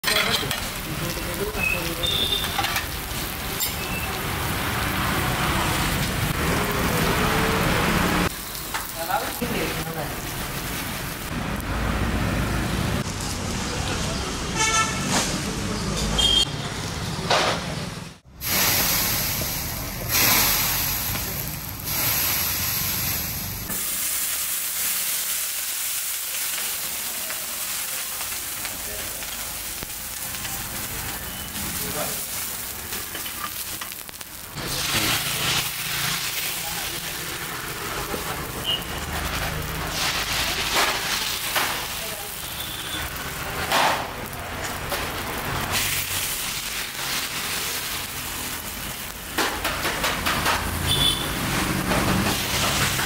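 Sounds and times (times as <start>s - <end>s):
pans hissing and sizzling: 0.0s - 13.4s, 18.2s - 53.0s.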